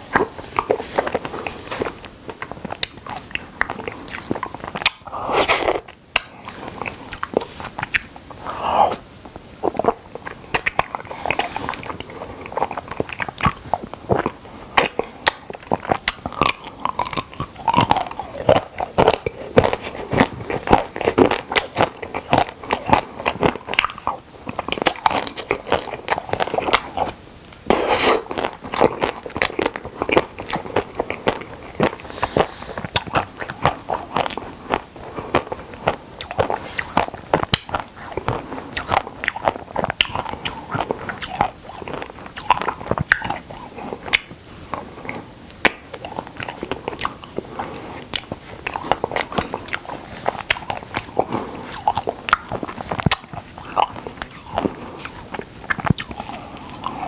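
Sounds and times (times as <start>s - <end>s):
ice cream bar crunching: 0.0s - 57.0s
wet chewing: 0.0s - 57.0s.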